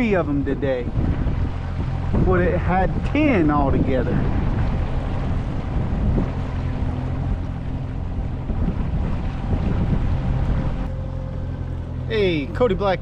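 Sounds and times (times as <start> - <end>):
boat engine running: 0.0 - 13.0
wind on microphone: 0.0 - 13.0.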